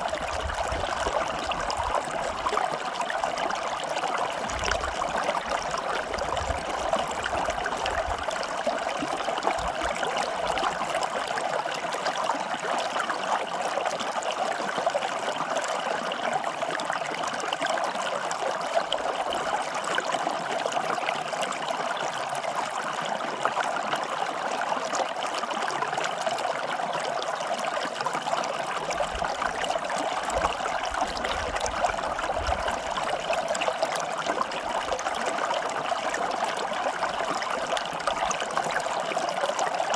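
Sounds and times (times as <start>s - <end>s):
water flowing steadily: 0.0s - 39.9s.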